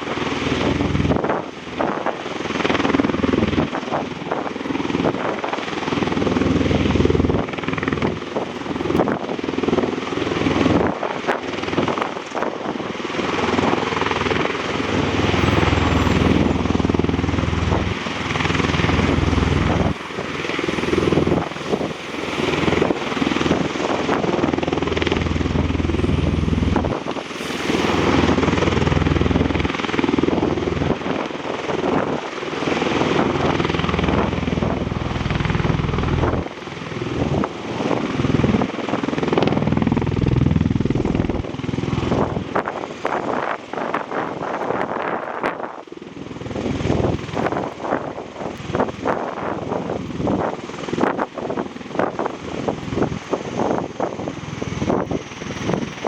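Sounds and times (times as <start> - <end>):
aircraft rotors droning: 0.0 - 56.0.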